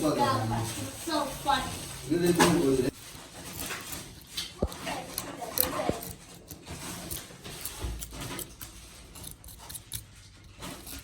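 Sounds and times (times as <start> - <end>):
small tools clicking and scraping: 0.6 - 11.0.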